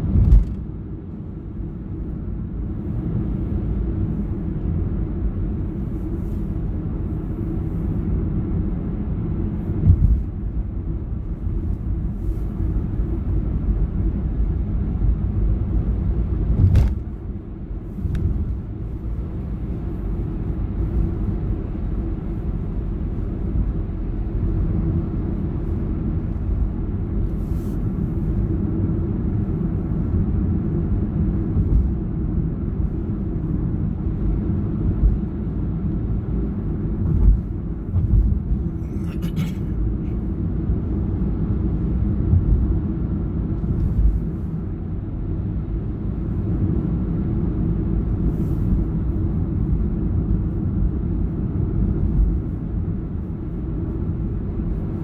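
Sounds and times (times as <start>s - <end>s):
road and engine rumble in car: 0.0s - 55.0s.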